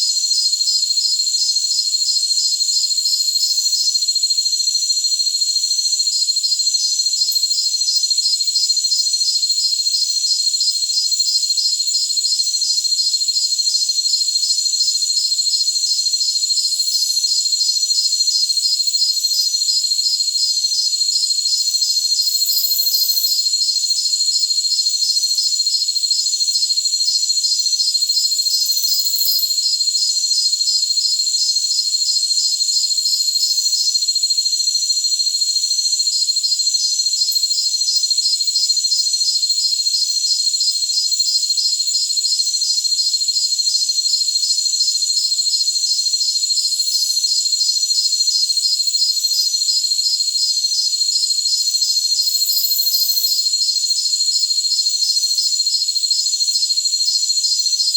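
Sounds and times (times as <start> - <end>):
high-pitched cricket trill: 0.0 - 57.9.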